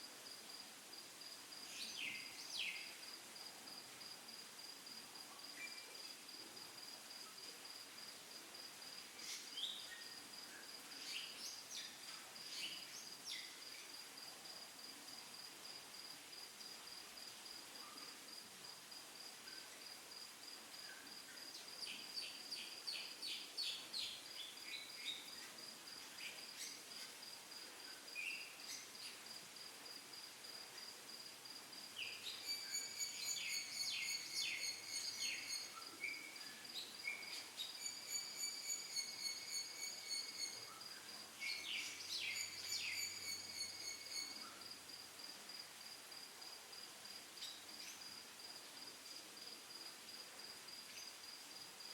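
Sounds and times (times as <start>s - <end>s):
insect chirping trill: 5.5s - 18.4s, 19.2s - 51.9s.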